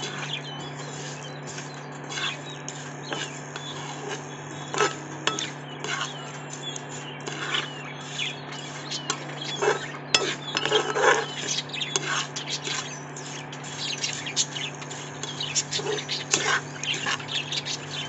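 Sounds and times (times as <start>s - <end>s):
steady low hum: 0.0s - 18.0s
metal spatula scraping a pan: 0.9s - 17.8s.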